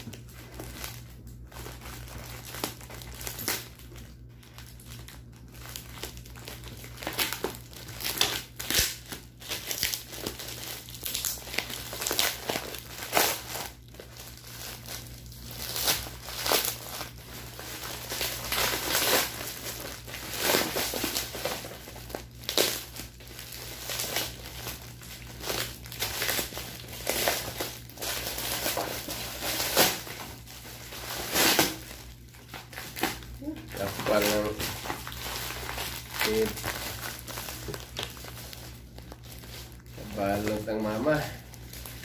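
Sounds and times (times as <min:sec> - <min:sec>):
plastic packaging crinkling: 0:00.0 - 0:42.0.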